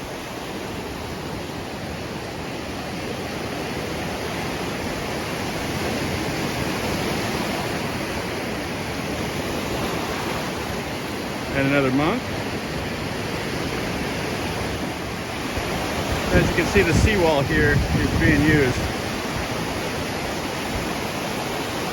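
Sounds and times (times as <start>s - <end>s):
waves washing onto beach: 0.0s - 21.9s.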